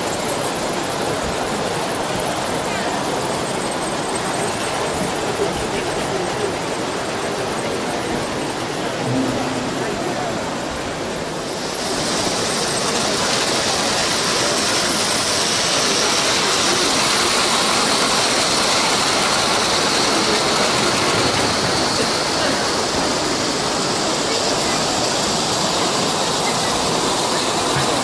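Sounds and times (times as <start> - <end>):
model train whirring on track: 0.0 - 28.0.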